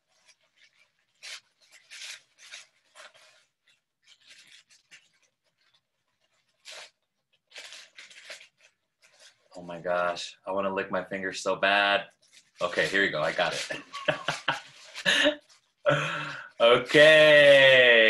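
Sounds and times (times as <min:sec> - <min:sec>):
tissue paper crinkling: 0:00.0 - 0:10.7, 0:11.6 - 0:18.0.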